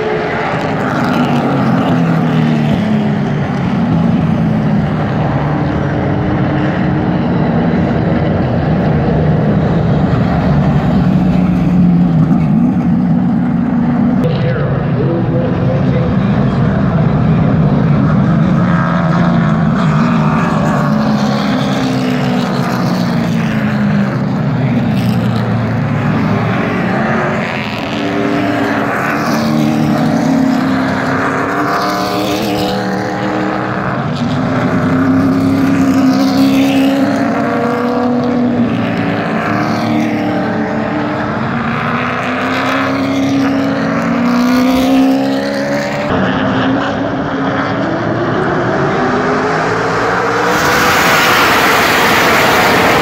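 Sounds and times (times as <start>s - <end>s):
race car engines passing: 0.0s - 53.0s.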